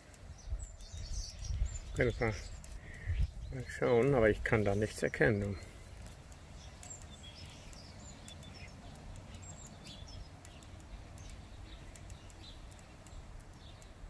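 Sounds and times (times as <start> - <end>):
light clicks: 0.0 - 14.0
small birds chirping: 0.0 - 14.0.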